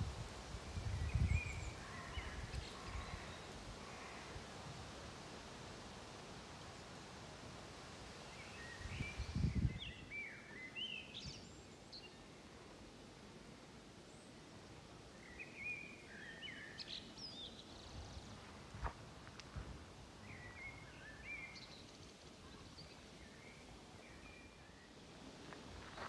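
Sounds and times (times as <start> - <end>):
faint birdsong chirps and trills: 0.5 - 4.6, 8.1 - 26.0.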